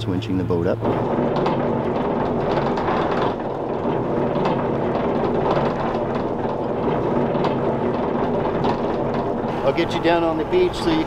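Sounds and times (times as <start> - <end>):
winch running: 0.0 - 11.0.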